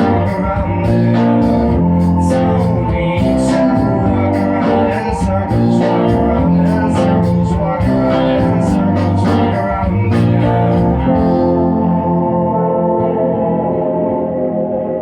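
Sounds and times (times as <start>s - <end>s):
band with guitar bass and drums: 0.0s - 14.0s.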